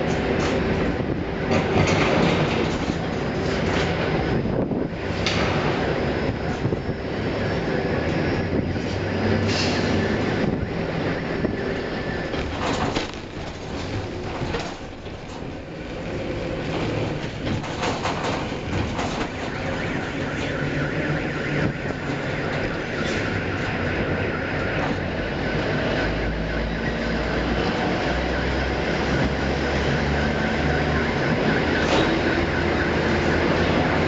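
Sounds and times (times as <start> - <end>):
crane trolley mechanical rumble: 0.0 - 34.0
deep crane hum: 0.0 - 34.0
rattling clicks of wheels: 0.0 - 34.0.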